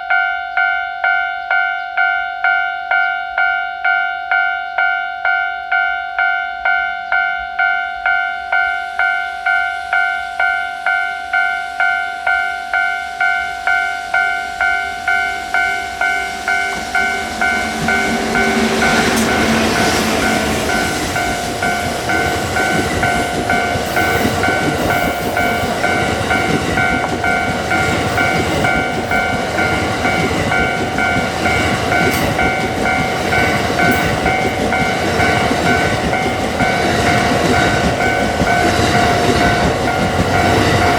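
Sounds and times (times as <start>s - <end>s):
level crossing bell ringing: 0.0s - 40.9s
train passing: 7.1s - 40.9s.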